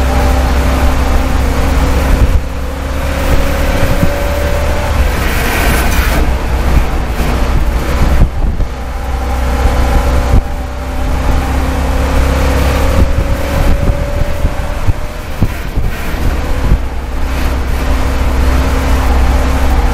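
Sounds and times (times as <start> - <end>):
race car engine rumbling: 0.0 - 19.9.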